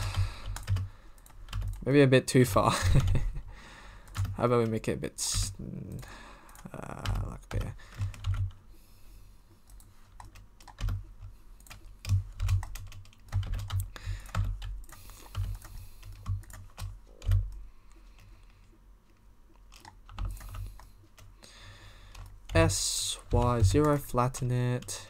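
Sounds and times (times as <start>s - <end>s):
computer keyboard keys tapping: 0.0s - 1.8s, 2.8s - 3.3s, 4.0s - 8.6s, 9.7s - 21.4s, 22.0s - 24.1s.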